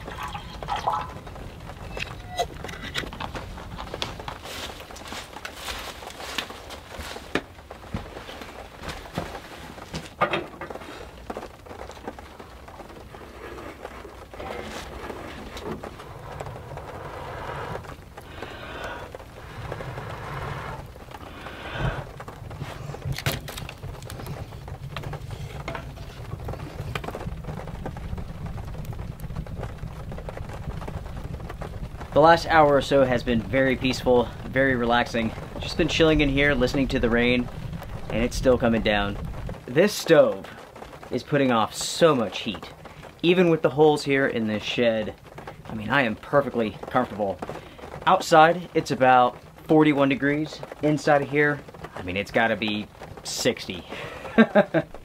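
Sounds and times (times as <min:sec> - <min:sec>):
rain on a shed roof: 0:00.0 - 0:55.0
wood crackling in a stove: 0:00.0 - 0:55.0.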